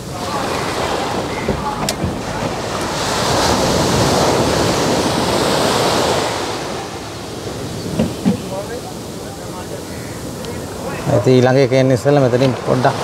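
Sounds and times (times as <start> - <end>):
sea waves washing in: 0.0 - 13.0.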